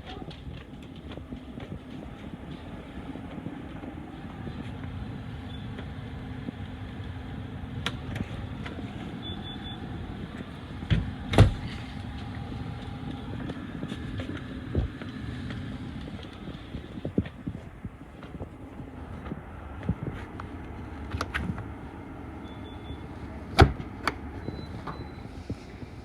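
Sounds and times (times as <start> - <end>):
steady low hum: 0.4 - 26.0.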